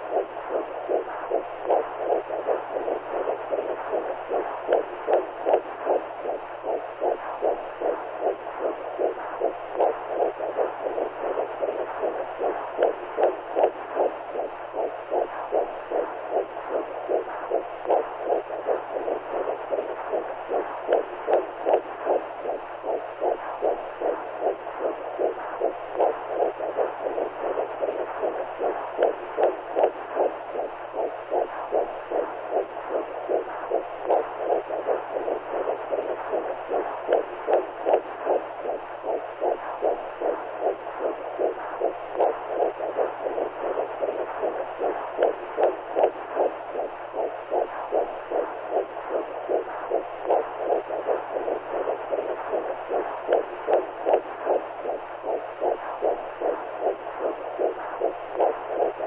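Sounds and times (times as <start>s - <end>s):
heartbeat-like pulse: 0.0s - 59.0s
low steady hum: 0.0s - 59.0s.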